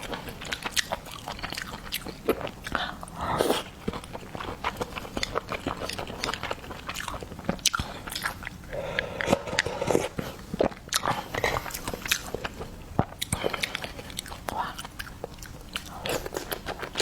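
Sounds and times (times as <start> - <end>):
person chewing and crunching food: 0.0 - 17.0.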